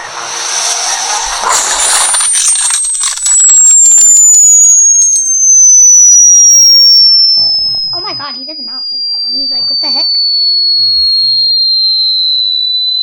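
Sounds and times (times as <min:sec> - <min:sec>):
crackling noise: 0:00.0 - 0:13.0
high-pitched whistle sliding down: 0:00.0 - 0:13.0.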